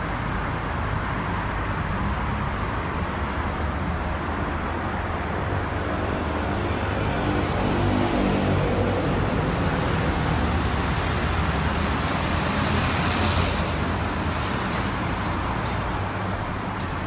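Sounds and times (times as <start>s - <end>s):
cars passing: 0.0s - 17.0s
road traffic: 0.0s - 17.0s.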